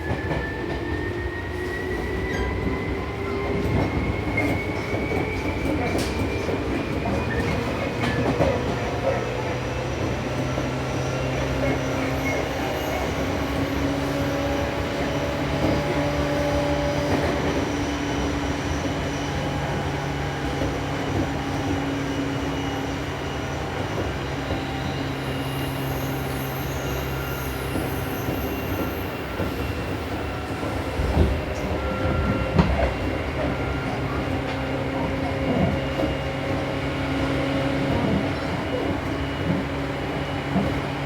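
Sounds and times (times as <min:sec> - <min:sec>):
electric train hum and rail rumble: 0:00.0 - 0:41.0.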